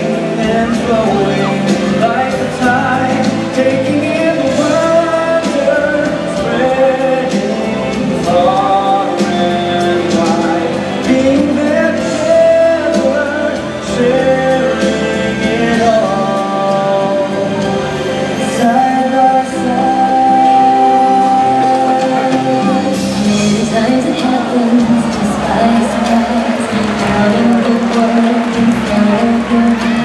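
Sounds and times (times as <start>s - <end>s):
show song over loudspeakers: 0.0s - 30.0s.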